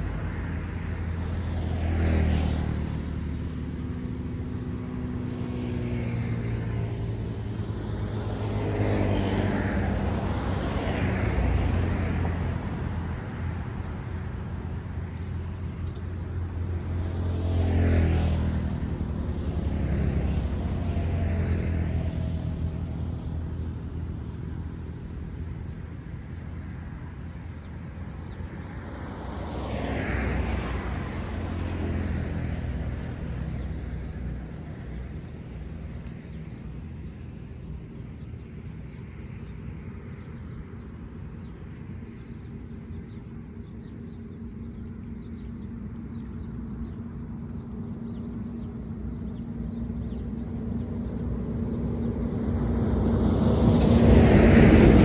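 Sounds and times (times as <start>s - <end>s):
low engine drone: 0.0s - 55.0s
vehicles passing: 0.0s - 55.0s.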